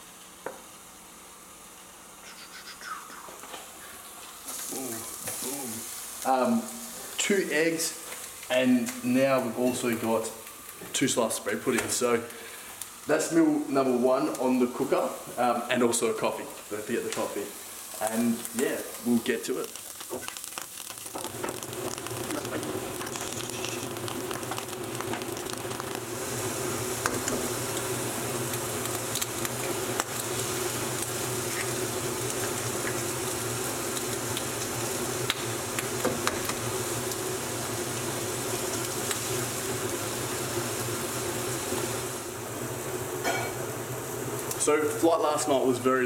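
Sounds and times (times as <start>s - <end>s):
food sizzling with pops: 0.0s - 46.0s.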